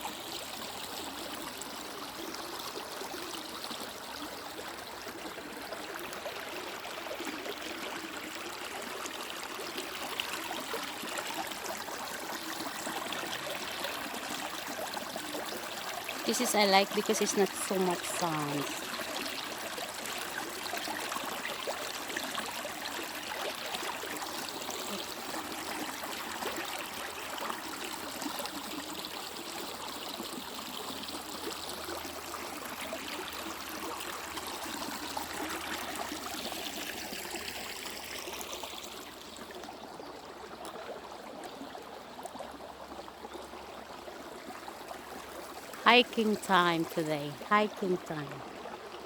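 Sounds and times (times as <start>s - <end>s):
stream water trickling: 0.0s - 49.0s.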